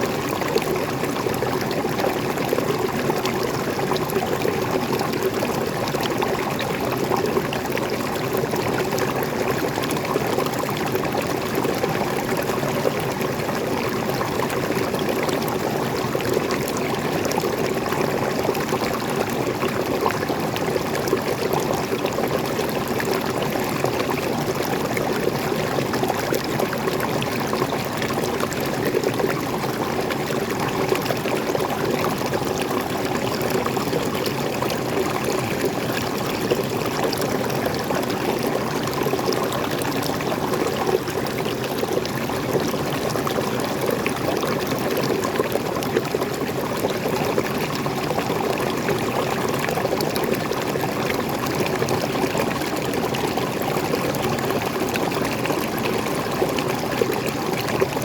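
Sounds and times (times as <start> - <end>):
water pouring over rocks: 0.0 - 58.0.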